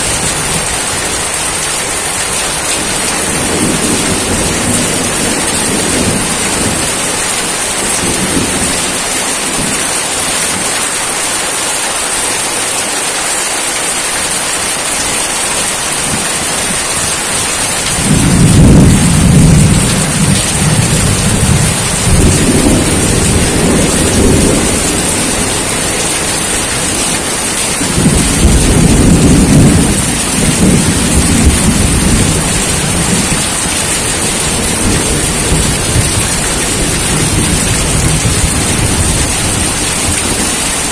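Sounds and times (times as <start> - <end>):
thunder rumbling: 0.0 - 10.7, 15.3 - 40.9
steady rain: 0.0 - 40.9.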